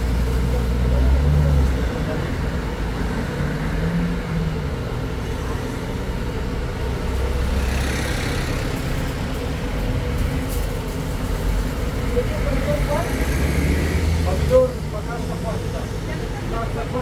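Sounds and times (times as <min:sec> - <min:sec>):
low engine rumble: 0:00.0 - 0:17.0
traffic hiss: 0:00.0 - 0:17.0.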